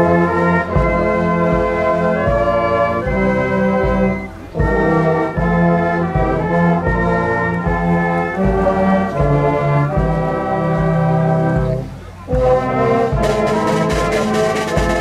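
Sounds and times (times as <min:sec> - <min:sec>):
brass and drum band playing: 0:00.0 - 0:15.0.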